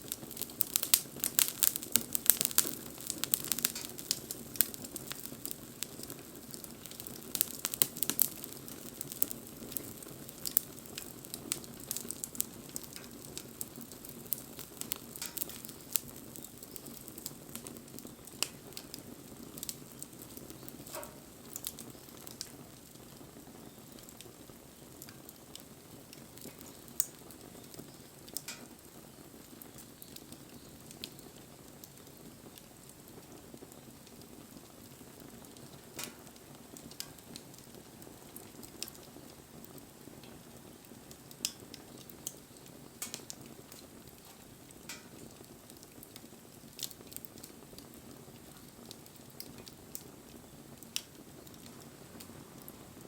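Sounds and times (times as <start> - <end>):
campfire burning: 0.0 - 53.0
wood crackling and popping: 0.0 - 53.0.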